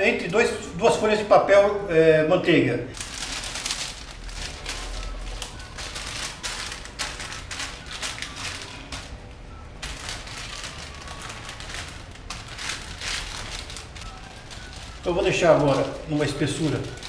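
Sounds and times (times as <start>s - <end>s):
parchment paper crinkling: 2.9s - 17.0s.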